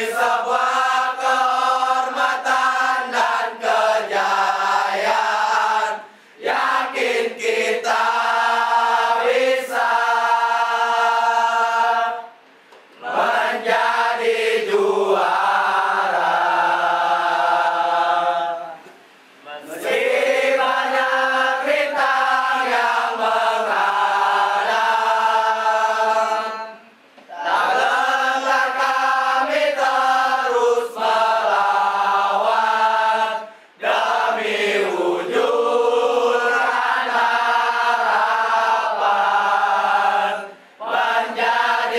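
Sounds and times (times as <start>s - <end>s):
group of voices chanting: 0.0s - 12.3s, 13.0s - 18.8s, 19.6s - 41.9s.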